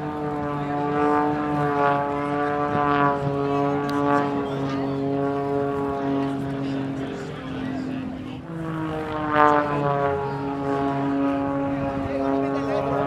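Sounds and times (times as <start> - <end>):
propeller plane droning overhead: 0.0 - 13.0.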